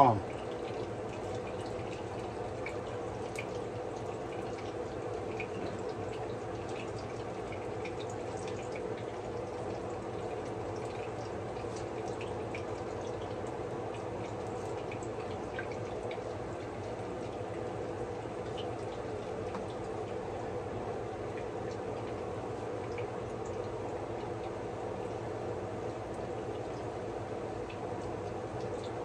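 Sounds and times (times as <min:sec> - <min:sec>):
plantain frying in oil: 0:00.0 - 0:29.0.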